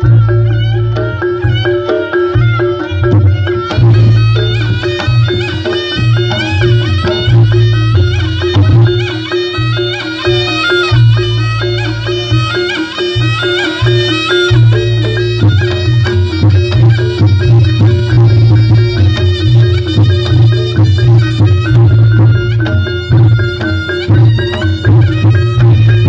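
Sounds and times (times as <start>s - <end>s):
gamelan music over loudspeakers: 0.0s - 26.0s
hand drums: 0.0s - 26.0s
shawm wavering melody: 0.0s - 26.0s
pulsing bass: 2.4s - 26.0s
low held drone tone: 3.7s - 26.0s.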